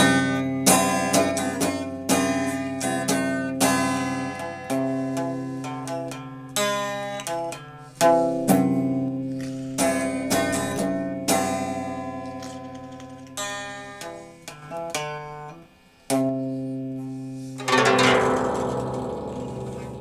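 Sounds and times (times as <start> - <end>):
plucked string instrument music: 0.0 - 20.0.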